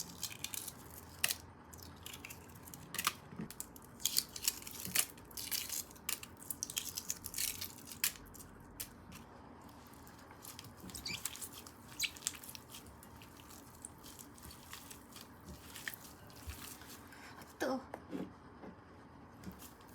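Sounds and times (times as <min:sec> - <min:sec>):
crisp bites and chewing: 0:00.0 - 0:17.1.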